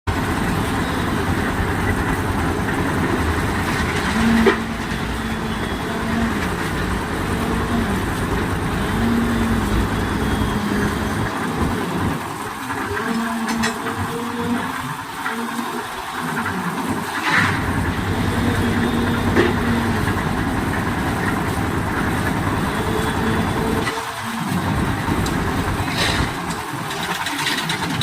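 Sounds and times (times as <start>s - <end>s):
concrete mixer engine running: 0.1s - 28.0s
faint whining tone: 0.2s - 28.0s.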